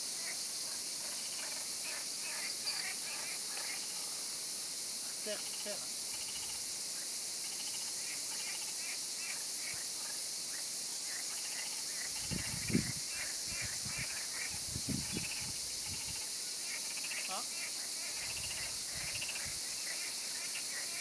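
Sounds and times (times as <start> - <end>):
high insect chirring: 0.0 - 21.0.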